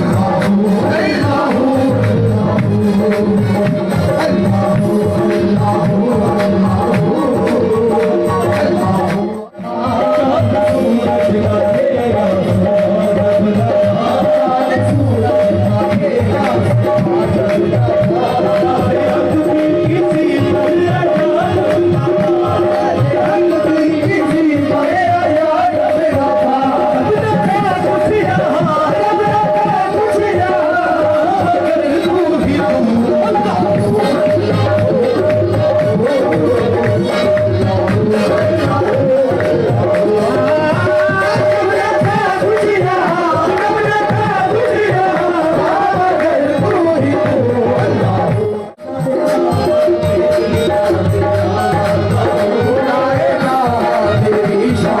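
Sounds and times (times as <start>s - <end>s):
fast hand-drum rhythm: 0.0s - 55.0s.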